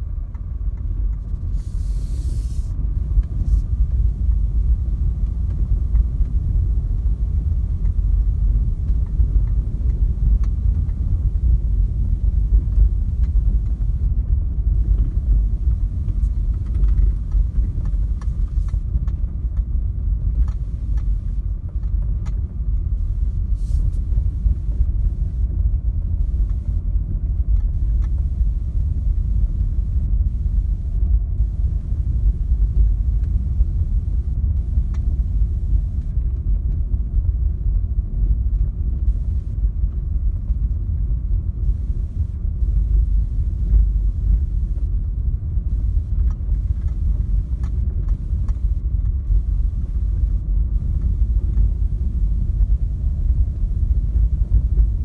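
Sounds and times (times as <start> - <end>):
car engine: 0.0 - 55.0
tyre and road noise: 0.0 - 55.0.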